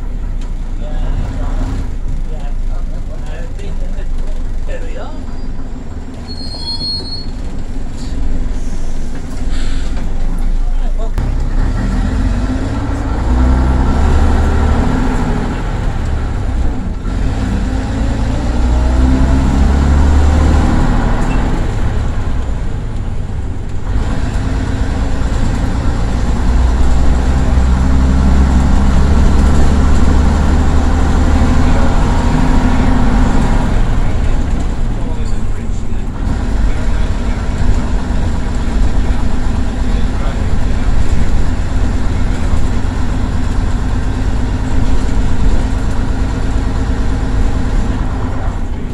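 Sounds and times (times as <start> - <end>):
bus diesel engine: 0.0 - 48.9.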